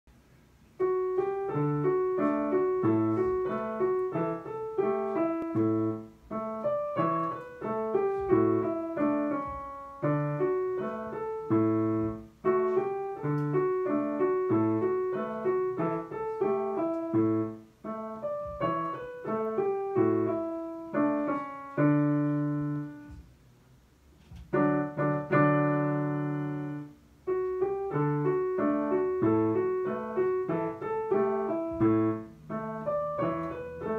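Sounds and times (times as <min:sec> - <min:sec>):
digital piano playing: 0:00.7 - 0:23.3, 0:24.4 - 0:33.9.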